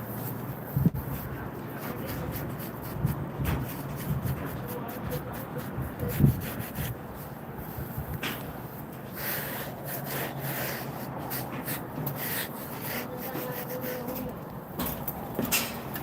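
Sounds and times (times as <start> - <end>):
stiff brush scrubbing stone: 0.0 - 14.6.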